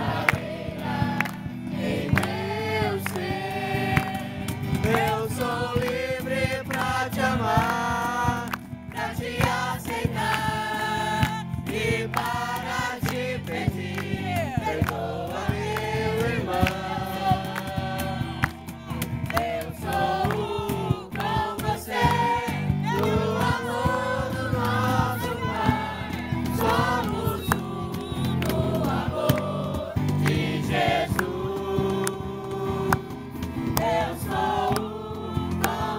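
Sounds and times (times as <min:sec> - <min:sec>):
group singing worship song: 0:00.0 - 0:35.9
instrumental accompaniment: 0:00.0 - 0:35.9.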